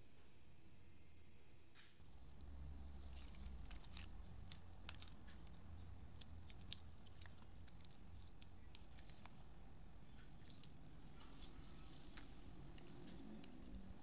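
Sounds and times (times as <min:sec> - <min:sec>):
low steady rumble: 0:00.0 - 0:14.0
paper crinkling: 0:02.0 - 0:14.0.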